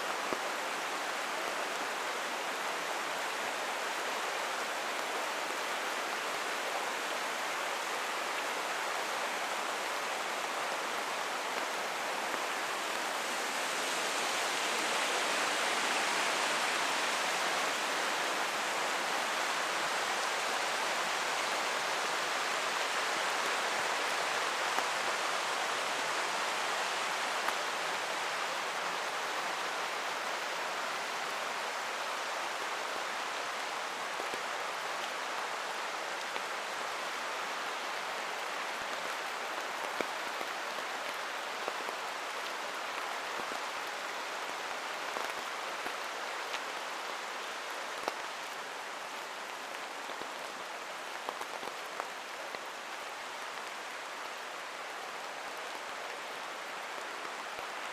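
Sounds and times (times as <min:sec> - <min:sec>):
creek running: 0:00.0 - 0:57.9
rain falling: 0:00.0 - 0:57.9.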